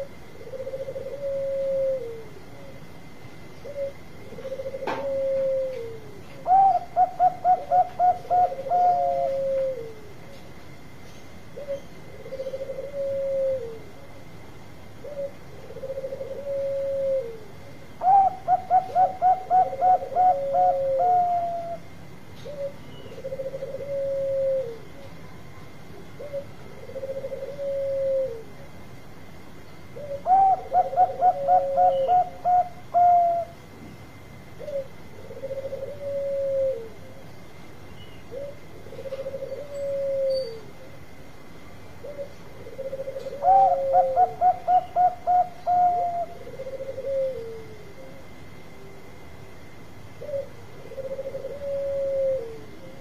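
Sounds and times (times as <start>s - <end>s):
doves cooing: 0.0s - 53.0s.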